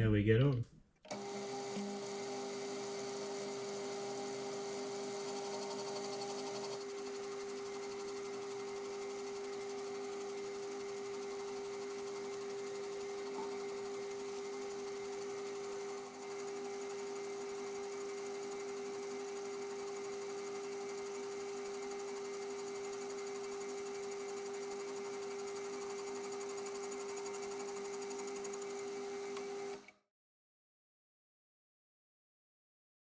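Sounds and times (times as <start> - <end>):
metal lathe whining: 1.1 - 29.8.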